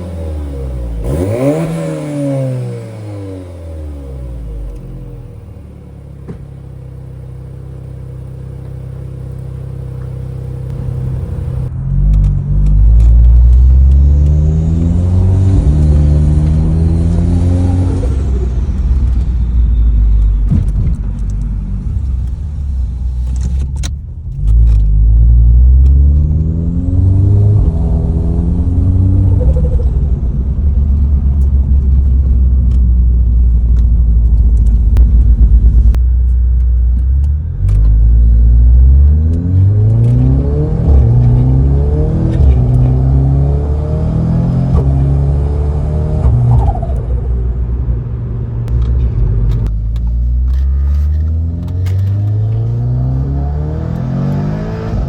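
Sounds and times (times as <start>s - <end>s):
car engine revving: 0.0s - 23.7s, 24.3s - 36.0s, 37.6s - 55.0s.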